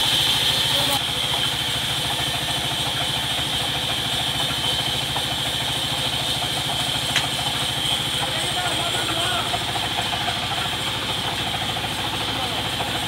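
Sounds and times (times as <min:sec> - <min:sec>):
sawmill drive chugging: 0:00.0 - 0:13.0.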